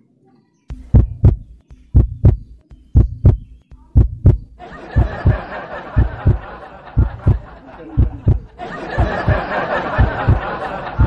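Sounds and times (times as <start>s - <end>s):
heartbeat thumps: 0.7s - 11.0s.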